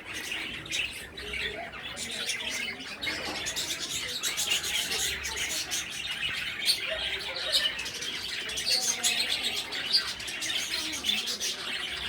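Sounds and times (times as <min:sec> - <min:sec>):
small birds chirping and chattering: 0:00.0 - 0:12.0.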